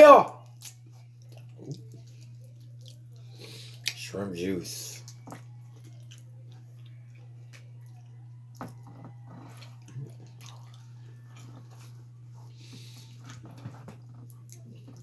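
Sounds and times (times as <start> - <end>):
wet chewing and squishing: 0.4 - 4.1, 5.0 - 15.0.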